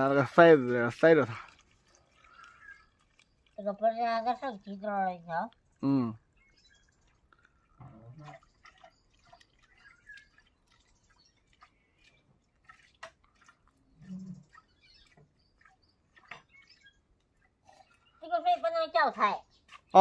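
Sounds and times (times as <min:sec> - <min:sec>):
water dripping and trickling: 0:00.0 - 0:20.0.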